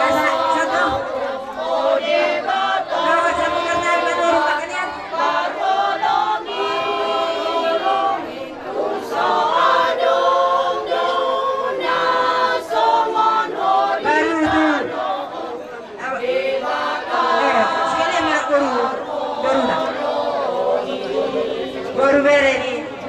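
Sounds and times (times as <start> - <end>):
group of people singing: 0.0 - 22.8.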